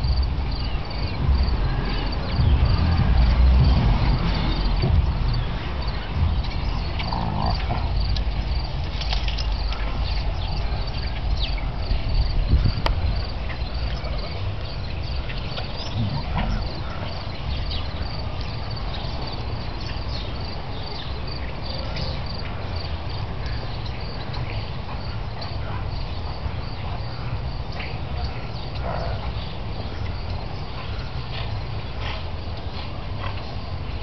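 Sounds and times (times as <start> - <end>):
constant low rumble: 0.0 - 34.0
crickets chirping: 0.0 - 34.0.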